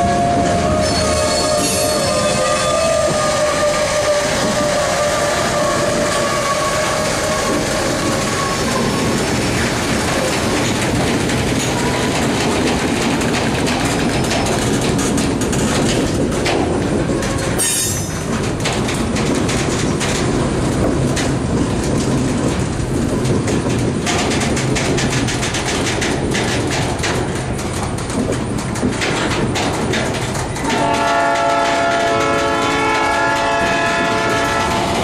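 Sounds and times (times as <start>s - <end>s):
train wheels clickety-clack: 0.0s - 35.0s.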